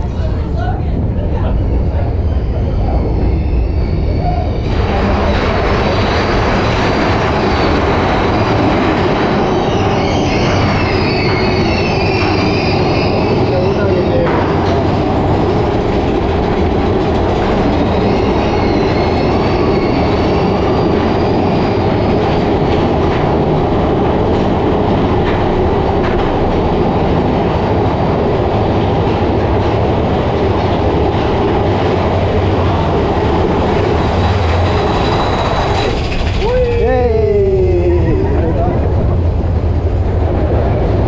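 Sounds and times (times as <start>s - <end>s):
roller coaster rumble and clatter: 0.0s - 41.0s.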